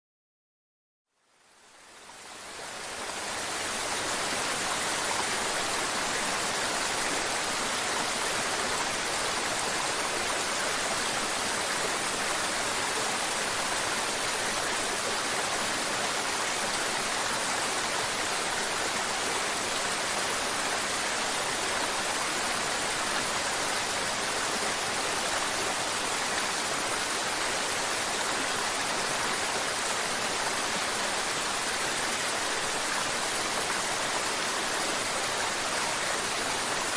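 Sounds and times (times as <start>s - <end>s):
river water flowing: 1.2s - 36.9s.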